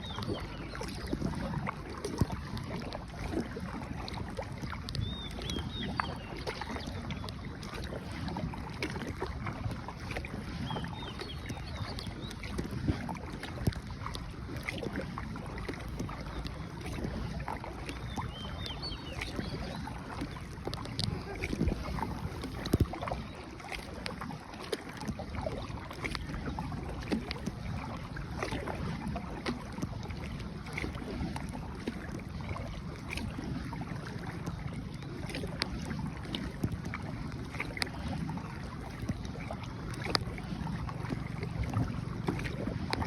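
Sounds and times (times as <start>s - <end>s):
paddle splashes: 0.0s - 43.0s
water sloshing: 0.0s - 43.0s
wind on microphone: 0.0s - 43.0s.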